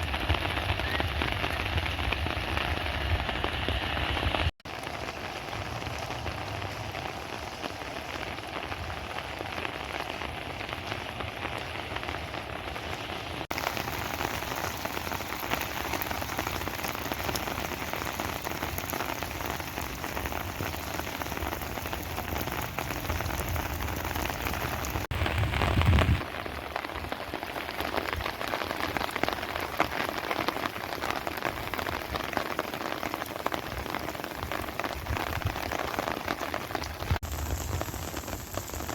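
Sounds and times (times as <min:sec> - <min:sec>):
rain splashing on surfaces: 0:00.0 - 0:38.9.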